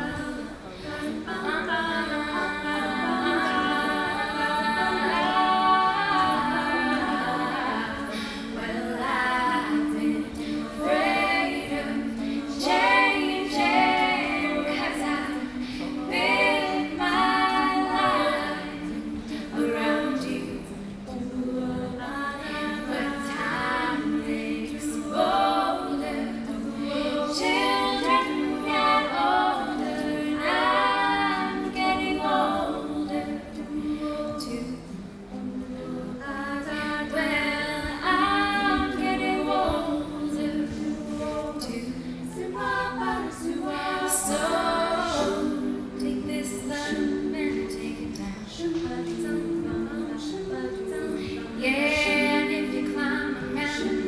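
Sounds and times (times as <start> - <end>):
female group singing backing chords: 0.0 - 54.0.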